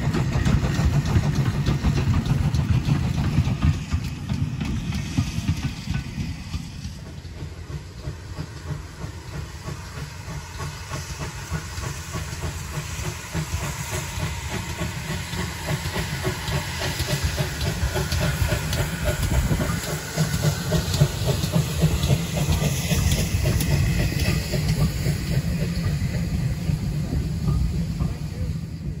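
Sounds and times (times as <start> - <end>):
hiss of steam: 0.0 - 29.0
steam locomotive exhaust beats: 0.0 - 29.0.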